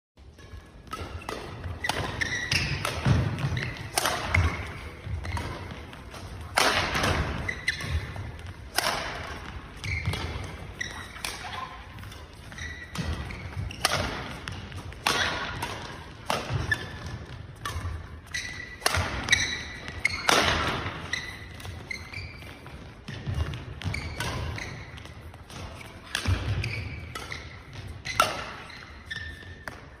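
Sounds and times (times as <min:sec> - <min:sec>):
rackets hitting shuttlecock: 0:00.2 - 0:30.0
shoes squeaking on court: 0:00.3 - 0:30.0.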